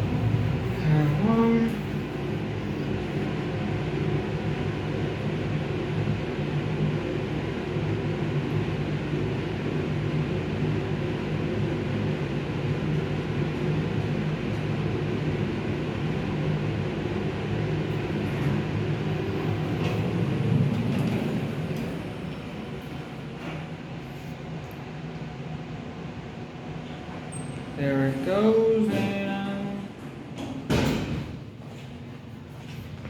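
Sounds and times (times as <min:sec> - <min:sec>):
elevator rumble and hum: 0:00.0 - 0:33.0.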